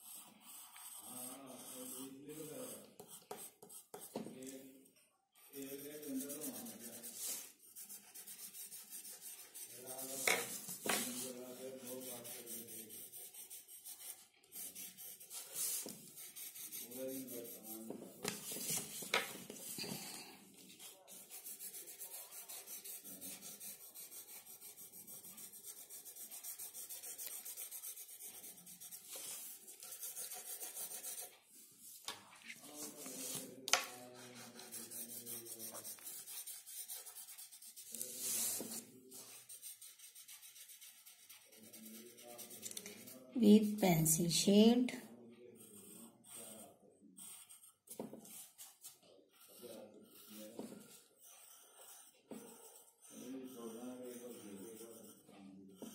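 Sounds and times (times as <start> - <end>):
pencil scratching on paper: 0.0 - 4.6, 5.4 - 55.9.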